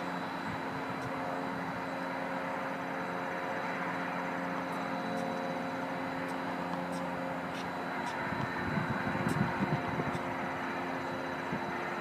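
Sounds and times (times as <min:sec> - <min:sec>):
background hum and hiss: 0:00.0 - 0:12.0
constant tones: 0:00.0 - 0:12.0.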